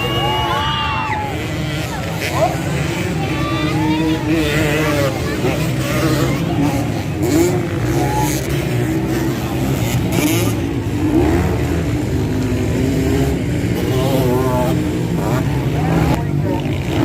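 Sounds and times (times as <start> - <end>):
motorbike engines revving: 0.0 - 17.0.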